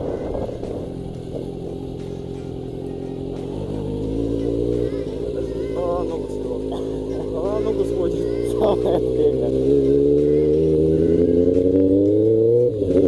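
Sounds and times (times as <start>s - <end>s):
motorcycle engine droning: 0.0s - 13.0s.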